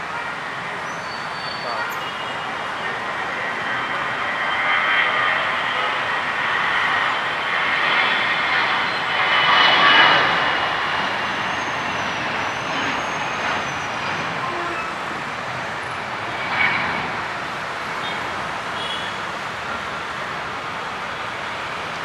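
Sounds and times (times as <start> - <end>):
airliner engines rushing: 0.0 - 22.0
faint high whine: 0.6 - 20.0.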